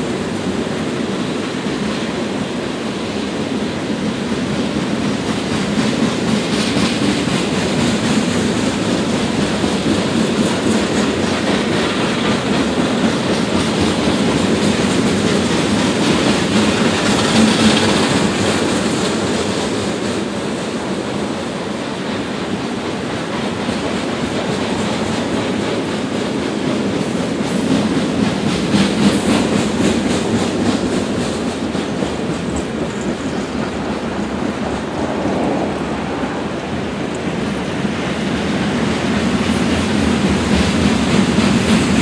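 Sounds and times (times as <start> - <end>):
train wheels rumbling on rail: 0.0 - 42.0
wheels clacking over rail joints: 0.0 - 42.0.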